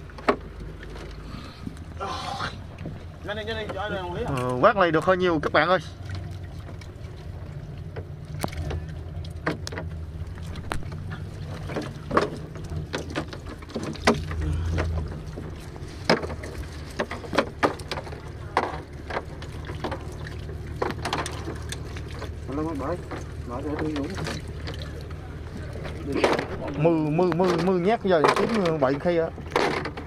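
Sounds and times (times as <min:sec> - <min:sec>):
boat engine humming: 0:00.0 - 0:30.0.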